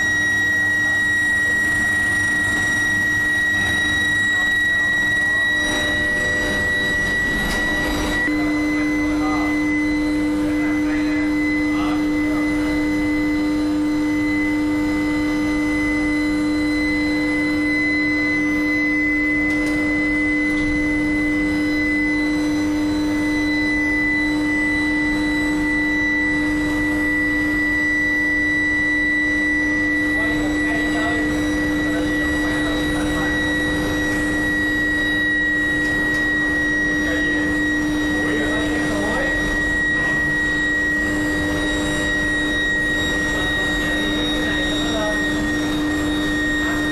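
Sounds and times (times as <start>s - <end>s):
furnace machine whine: 0.0s - 46.9s.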